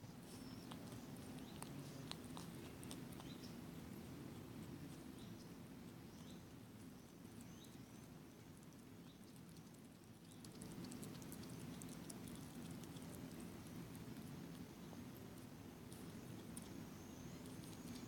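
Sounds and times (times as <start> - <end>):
low background hum: 0.0 - 18.0
hedgehog crunching peanuts: 0.3 - 18.0.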